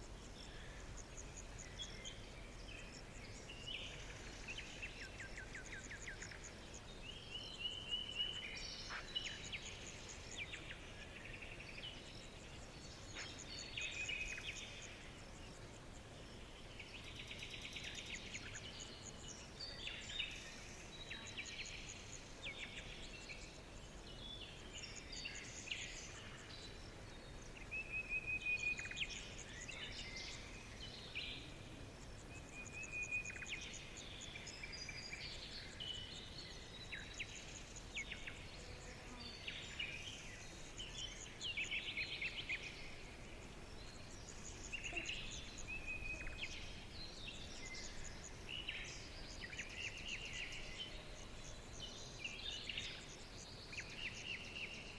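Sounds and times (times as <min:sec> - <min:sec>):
faint background hiss: 0:00.0 - 0:54.9
songbirds chirping and singing: 0:00.0 - 0:54.9.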